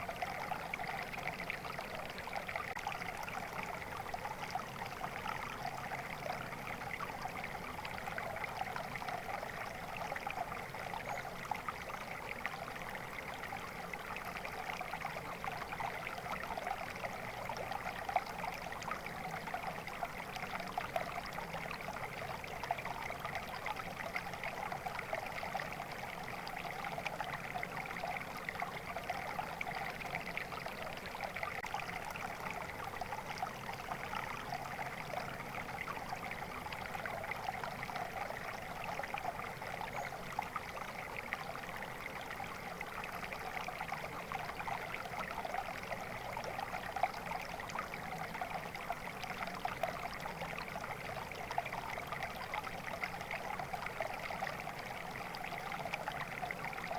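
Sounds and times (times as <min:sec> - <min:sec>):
stream water babbling: 0:00.0 - 0:56.9.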